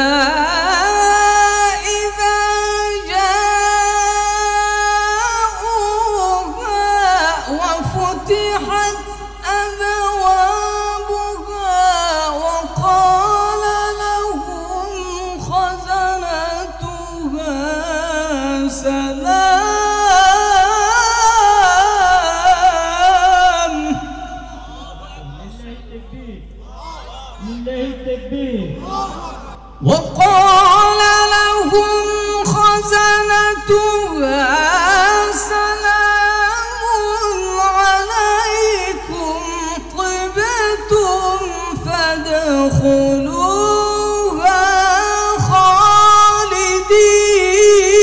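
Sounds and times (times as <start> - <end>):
man chanting melodically: 0.0 - 48.0.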